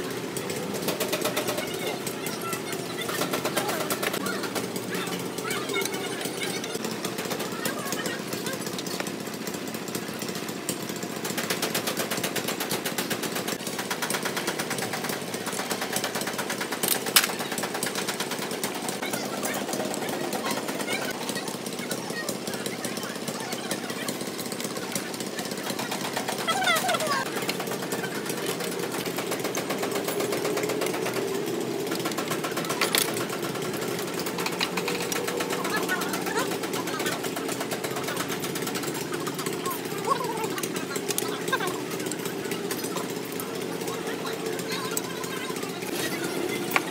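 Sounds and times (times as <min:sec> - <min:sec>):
machine running with pulsing: 0:00.0 - 0:46.9
rapid mechanical rattle: 0:00.0 - 0:46.9.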